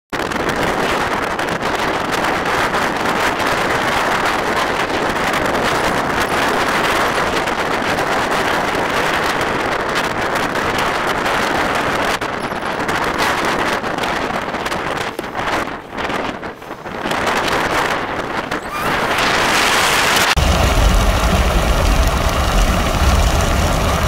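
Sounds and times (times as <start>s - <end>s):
wind blowing across microphone: 0.2s - 24.0s.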